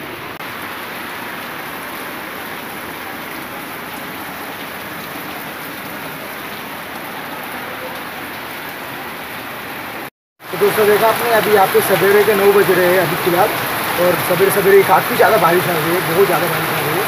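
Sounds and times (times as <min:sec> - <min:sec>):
heavy rain on metal roof: 0:00.0 - 0:17.0.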